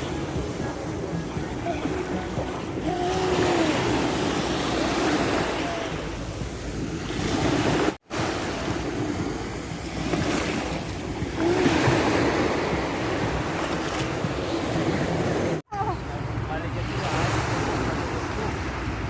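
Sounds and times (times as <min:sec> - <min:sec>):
ocean waves and surf: 0:00.0 - 0:19.0.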